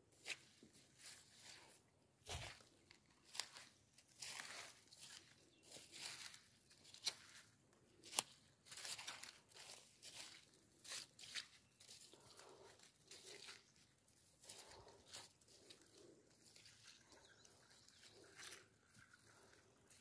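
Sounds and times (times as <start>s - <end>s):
footsteps through dead leaves: 0.2s - 20.0s.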